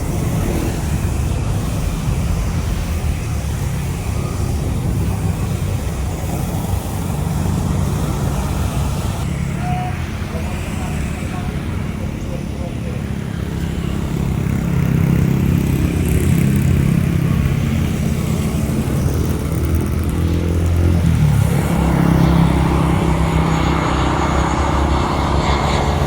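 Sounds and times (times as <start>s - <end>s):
broad rushing noise: 0.0s - 26.0s
engines humming: 0.0s - 26.0s.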